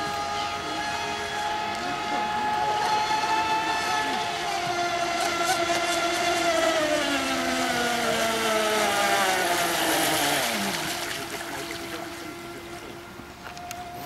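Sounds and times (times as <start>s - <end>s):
model speedboat motor: 0.0s - 14.0s.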